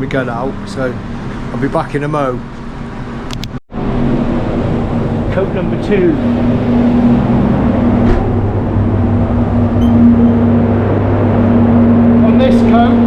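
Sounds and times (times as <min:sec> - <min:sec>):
machine hum with rushing air: 0:00.0 - 0:13.0.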